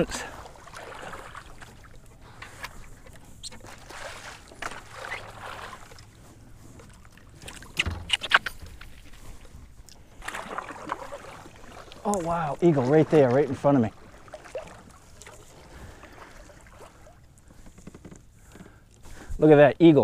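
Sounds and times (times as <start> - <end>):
water dripping and splashing: 0.0 - 6.1, 6.8 - 17.5
kayak paddle strokes in water: 0.0 - 19.3.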